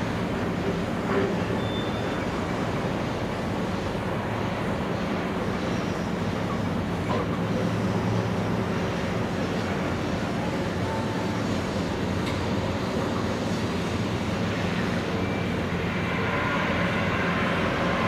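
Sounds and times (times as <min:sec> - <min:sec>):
low engine drone: 0:02.6 - 0:18.0.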